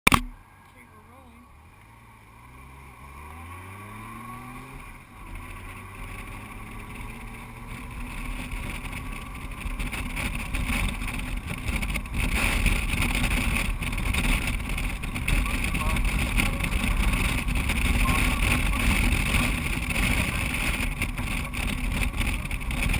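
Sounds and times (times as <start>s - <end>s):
wind and road noise: 0.0s - 22.9s
motorcycle engine pulling away: 1.5s - 22.9s.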